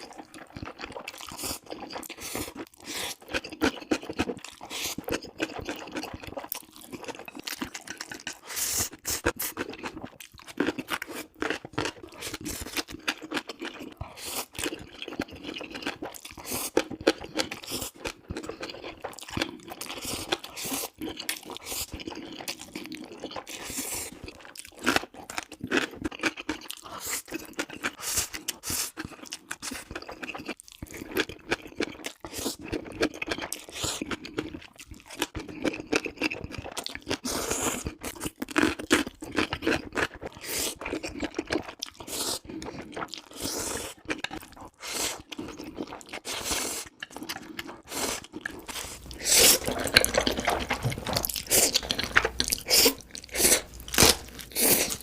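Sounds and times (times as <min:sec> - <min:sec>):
close eating and chewing noodles: 0:00.0 - 0:55.0.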